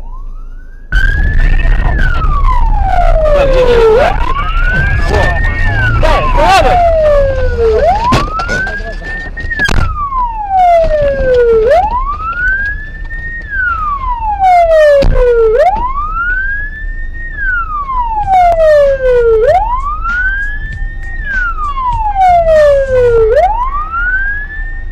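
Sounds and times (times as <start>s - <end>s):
emergency siren wailing: 0.0s - 24.9s.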